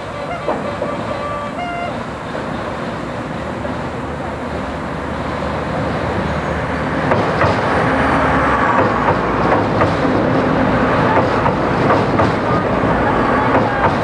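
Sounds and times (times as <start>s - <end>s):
wheels clacking over rail joints: 0.0s - 4.3s, 7.0s - 14.0s
train rumbling over steel bridge: 0.0s - 14.0s.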